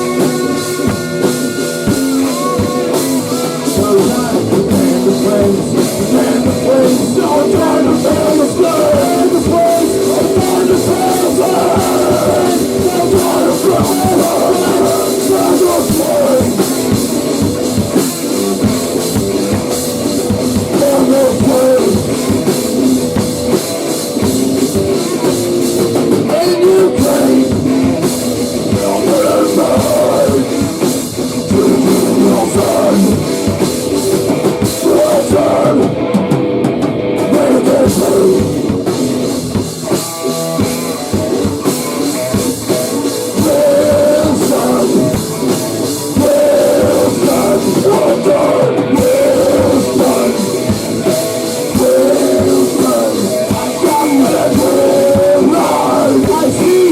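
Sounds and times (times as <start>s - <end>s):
drum kit pounding: 0.0s - 56.9s
rock band playing heavy music: 0.0s - 56.9s.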